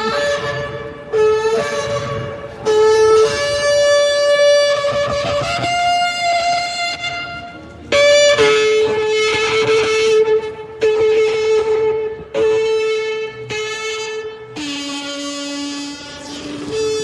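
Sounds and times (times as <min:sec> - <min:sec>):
shofar blasts: 0:00.0 - 0:17.0.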